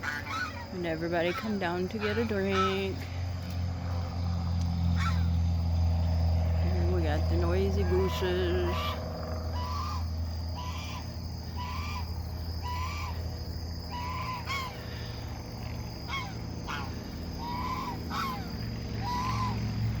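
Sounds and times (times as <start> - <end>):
geese honking: 0.0 - 3.2, 4.9 - 5.4, 6.6 - 20.0
steady low hum: 0.0 - 20.0.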